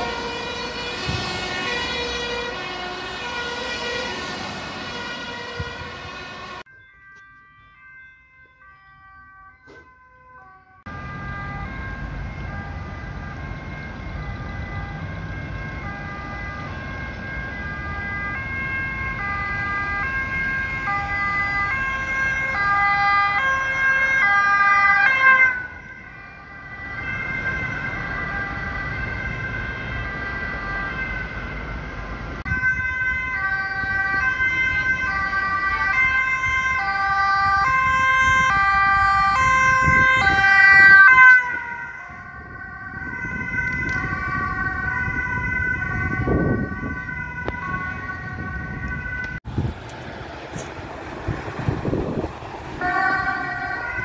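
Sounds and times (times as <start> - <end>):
ambulance two-tone siren: 0.0 - 54.0
road traffic rumble: 0.0 - 54.0.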